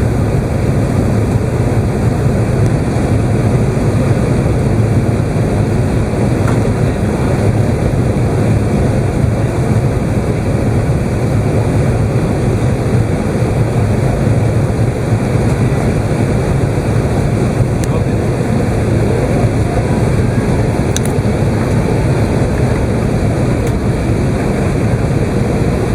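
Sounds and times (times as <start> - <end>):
aircraft cabin rumble: 0.0 - 25.9.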